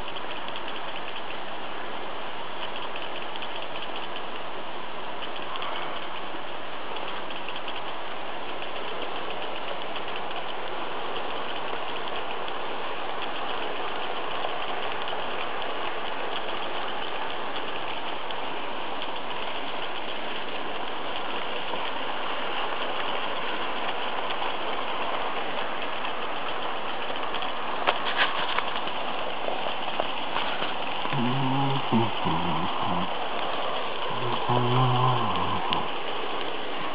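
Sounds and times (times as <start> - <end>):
model trains whirring on rails: 0.0 - 36.9.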